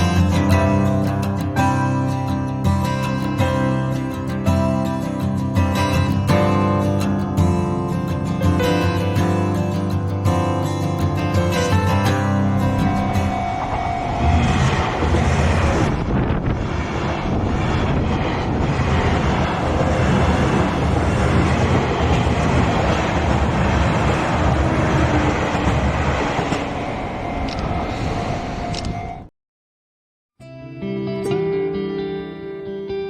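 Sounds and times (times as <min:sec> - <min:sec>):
train passing close by: 0:00.0 - 0:29.3.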